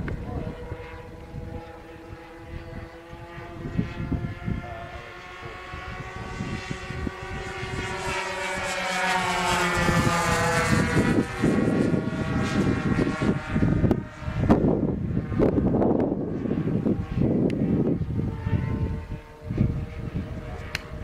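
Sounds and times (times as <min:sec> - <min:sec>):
model plane engines buzzing: 0:00.0 - 0:21.0
wind buffeting microphone: 0:00.0 - 0:21.0.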